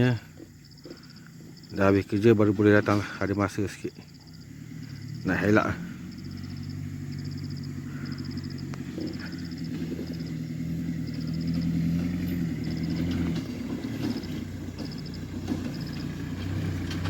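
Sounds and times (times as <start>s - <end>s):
vehicle engine running slowly: 0.0s - 17.0s.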